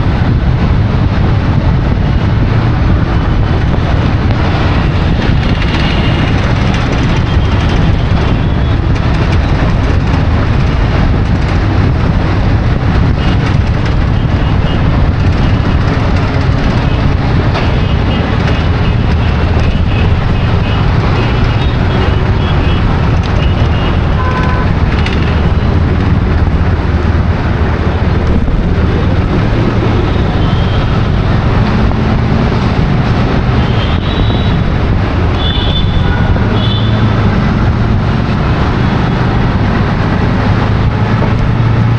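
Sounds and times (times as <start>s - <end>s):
road traffic rumble: 0.0s - 41.9s.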